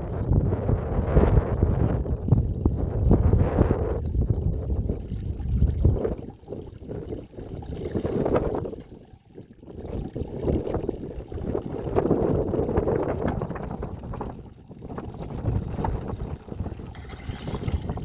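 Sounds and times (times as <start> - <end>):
wind buffeting microphone: 0.0 - 8.8, 10.0 - 18.0.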